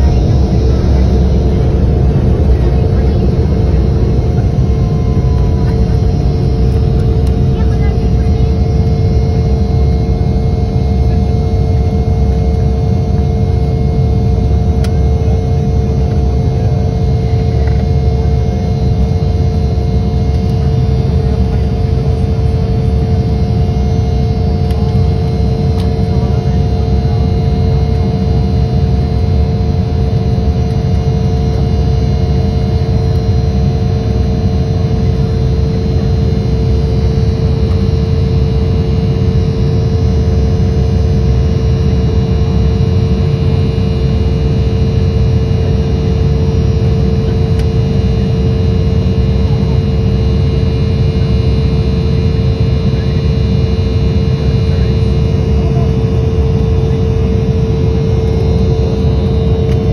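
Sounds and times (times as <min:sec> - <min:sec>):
jet engine cabin rumble: 0:00.0 - 0:59.9.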